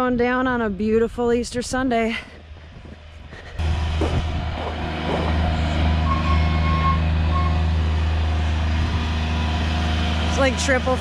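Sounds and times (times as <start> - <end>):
vehicle engine humming: 0.3 - 11.0.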